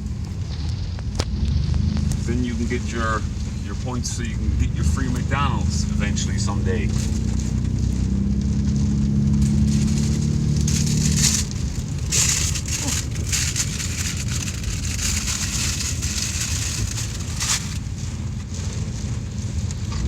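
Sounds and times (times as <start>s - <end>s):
car low rumble: 0.0s - 20.0s
heavy rain hitting a car: 0.0s - 20.0s.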